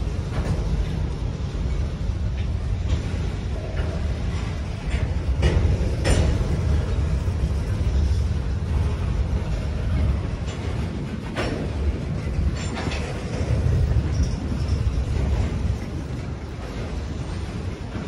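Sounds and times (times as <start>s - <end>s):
sharp clacks of train wheels: 0.0s - 18.0s
train wheels rumbling on rails: 0.0s - 18.0s.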